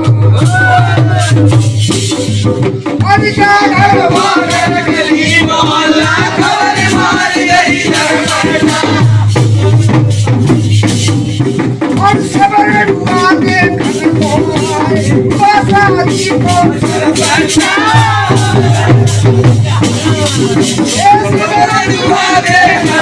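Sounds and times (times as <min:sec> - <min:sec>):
drum beat: 0:00.0 - 0:23.0
jingling rattle percussion: 0:00.4 - 0:23.0.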